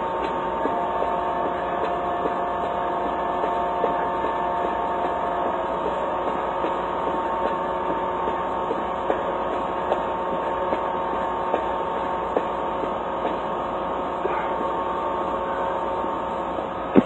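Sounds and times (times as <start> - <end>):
fuel pump machine hum: 0.0 - 17.0.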